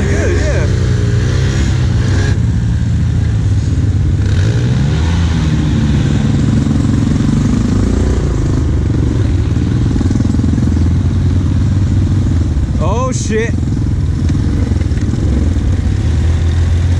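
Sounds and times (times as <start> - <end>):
quad bike engine running: 0.0 - 16.9.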